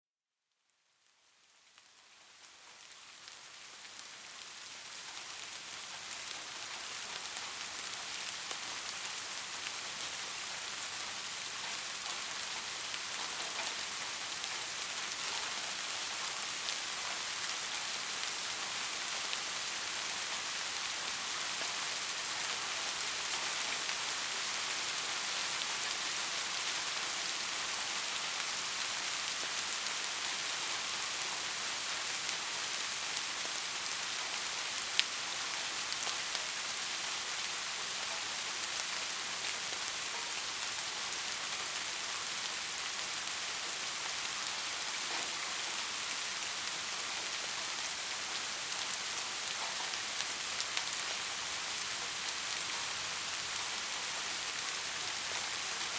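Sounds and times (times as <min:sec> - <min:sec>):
soft rain hiss: 0:00.3 - 0:55.9.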